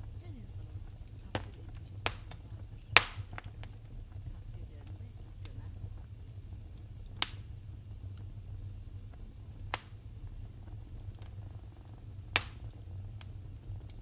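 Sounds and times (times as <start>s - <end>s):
fire crackling pops: 0.0s - 14.0s
low steady rumble of fire: 0.0s - 14.0s.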